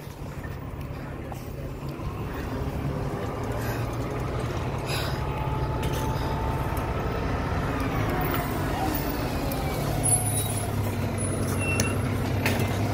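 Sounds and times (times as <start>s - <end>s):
fire engine humming: 0.0s - 12.9s.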